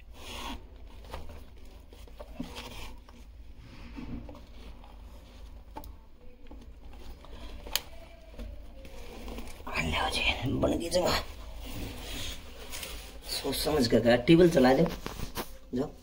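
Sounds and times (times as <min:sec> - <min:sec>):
scraping and rubbing handling noises: 0:00.0 - 0:16.0.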